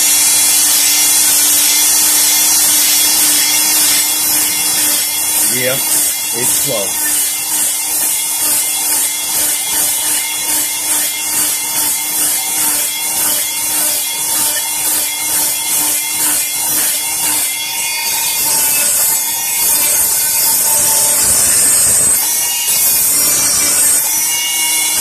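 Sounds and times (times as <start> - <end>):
electric multi-tool motor running: 0.0 - 25.0
abrasive head rasping on wood: 0.3 - 25.0.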